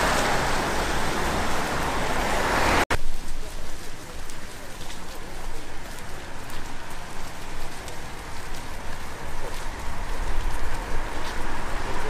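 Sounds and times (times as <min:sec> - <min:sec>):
light rain on wet street: 0:00.0 - 0:12.0.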